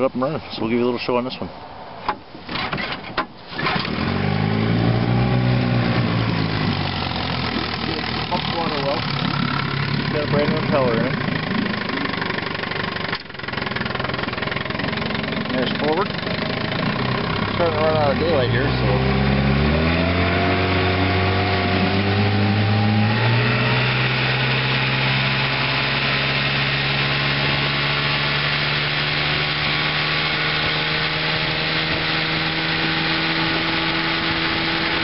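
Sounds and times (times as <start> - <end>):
outboard motor running: 3.5 - 35.0.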